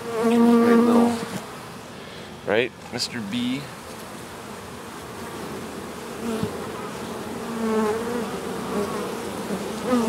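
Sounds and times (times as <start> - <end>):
honeybees buzzing: 0.0 - 1.9, 3.0 - 10.0.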